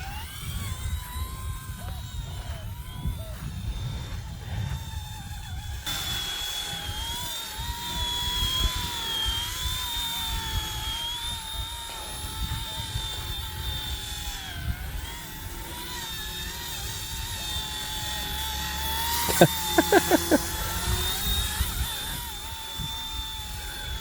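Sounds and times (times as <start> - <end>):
wind rumbling on microphone: 0.0 - 19.0, 20.4 - 24.0
toy helicopter motor whining: 0.0 - 24.0.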